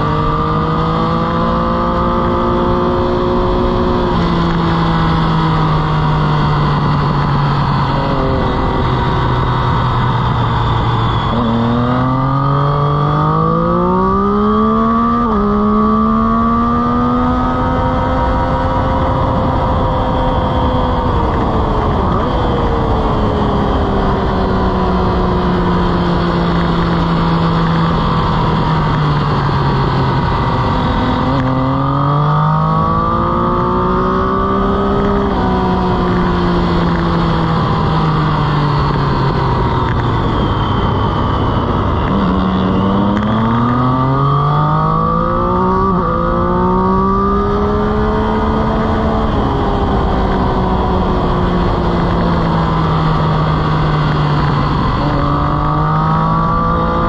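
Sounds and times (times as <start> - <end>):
motorcycle engine shifting gears: 0.0 - 57.0
wind rush: 0.0 - 57.0.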